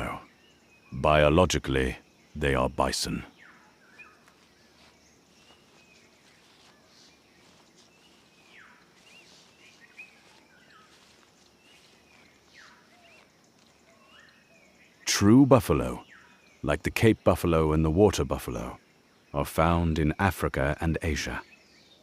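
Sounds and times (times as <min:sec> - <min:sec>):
low hiss: 0:00.0 - 0:21.4.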